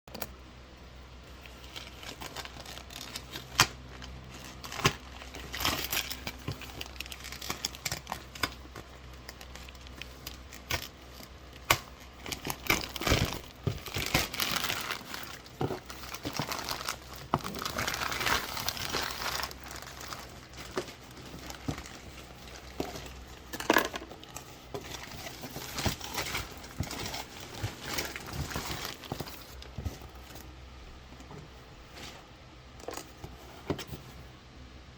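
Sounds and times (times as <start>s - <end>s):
packaging crinkling and tearing: 1.3s - 30.5s.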